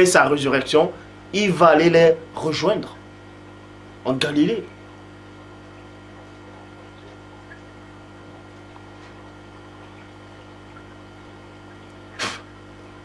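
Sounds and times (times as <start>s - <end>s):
aquarium pump humming: 0.0s - 13.0s.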